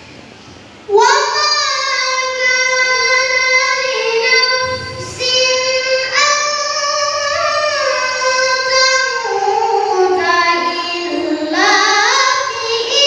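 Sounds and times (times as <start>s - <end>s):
high voice reciting melodically: 0.9s - 13.0s.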